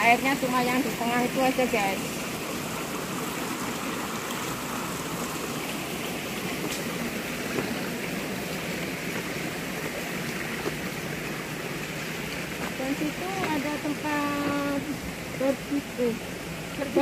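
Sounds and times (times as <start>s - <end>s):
shallow stream water running: 0.0s - 17.0s.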